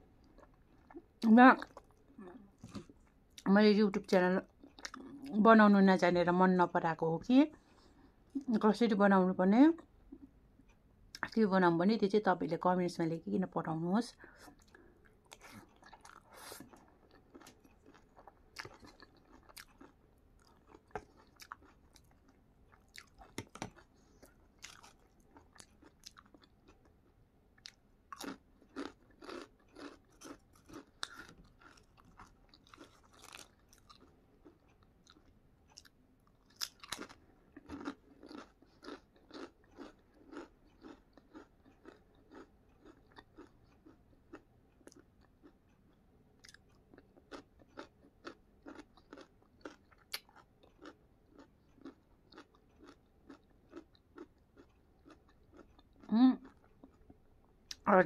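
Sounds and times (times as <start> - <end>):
person chewing crunchy food: 0.1 - 3.5, 14.3 - 57.8.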